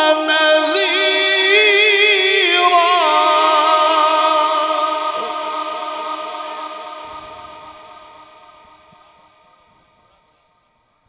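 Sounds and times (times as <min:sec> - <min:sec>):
man reciting melodically: 0:00.0 - 0:10.3.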